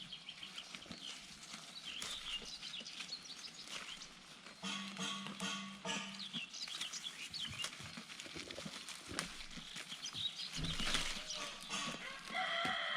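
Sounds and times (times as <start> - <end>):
birds chirping: 0.0 - 8.0, 9.2 - 12.8.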